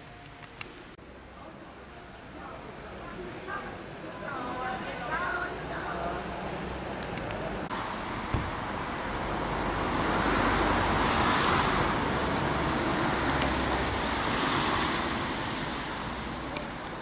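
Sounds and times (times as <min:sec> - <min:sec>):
tyres hissing on wet road: 0:00.7 - 0:17.0.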